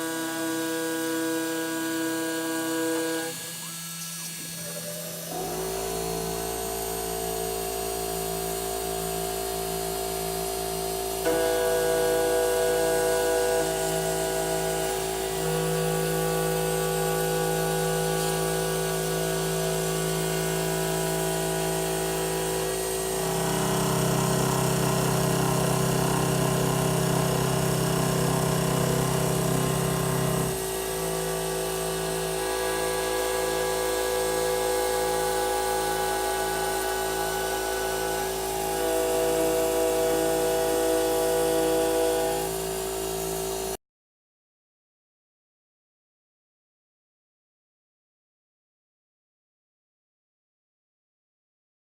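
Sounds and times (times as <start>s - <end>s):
router spindle milling metal: 0.0s - 43.6s.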